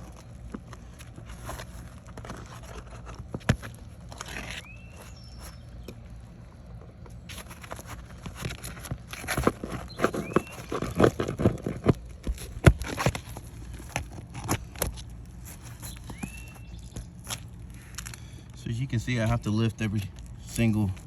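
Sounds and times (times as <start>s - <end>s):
pry bar scraping roof shingles: 0.0s - 18.5s.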